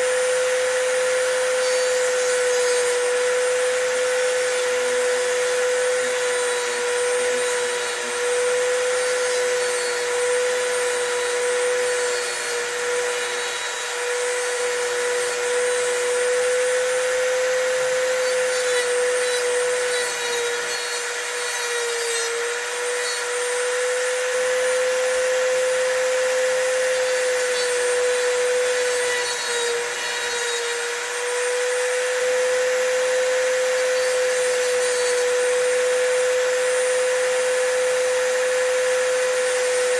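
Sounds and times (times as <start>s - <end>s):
rotary tool whining while cutting metal: 0.0s - 39.9s.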